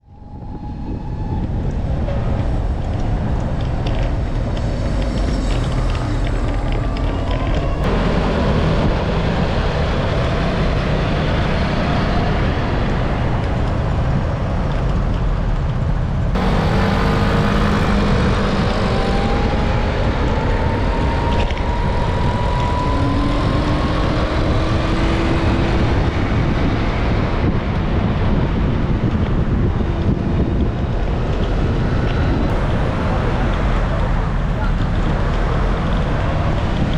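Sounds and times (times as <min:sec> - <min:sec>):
engine rising in pitch: 0:00.0 - 0:13.8, 0:16.3 - 0:36.9
road traffic noise: 0:00.0 - 0:36.9
wind buffeting microphone: 0:00.0 - 0:36.9.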